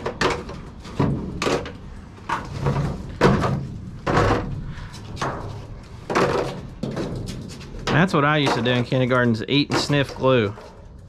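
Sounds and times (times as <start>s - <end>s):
objects knocking: 0.0s - 10.8s
trash rustling: 0.0s - 11.0s.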